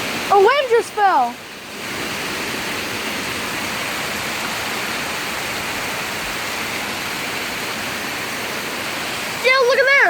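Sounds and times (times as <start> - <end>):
heavy rain: 0.0 - 10.0
strong wind: 0.0 - 10.0.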